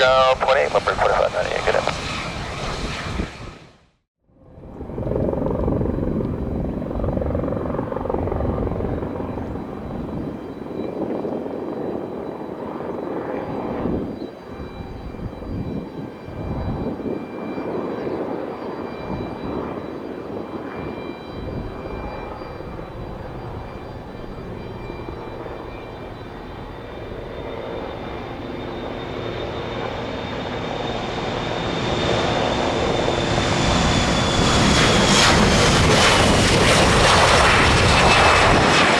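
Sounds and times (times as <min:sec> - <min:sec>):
jet engines rumbling: 0:00.0 - 0:03.8, 0:04.6 - 0:38.9
jet engine high whine: 0:00.0 - 0:38.9.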